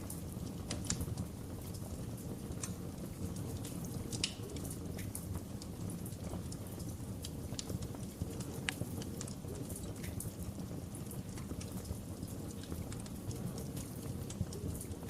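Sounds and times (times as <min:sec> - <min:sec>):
fire pops and snaps: 0:00.0 - 0:15.0
wood fire crackling: 0:00.0 - 0:15.0.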